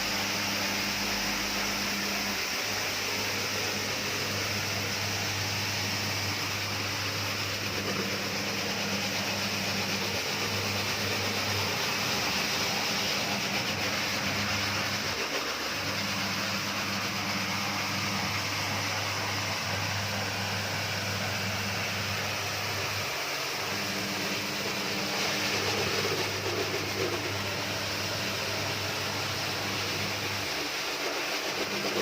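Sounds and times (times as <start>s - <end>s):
carpet scrubbing machine running: 0.0s - 32.0s.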